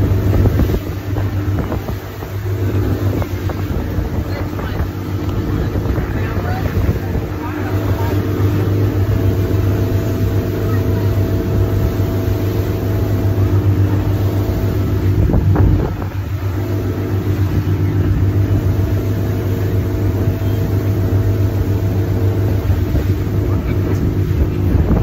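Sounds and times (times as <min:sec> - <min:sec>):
motorboat engine droning: 0:00.0 - 0:25.0.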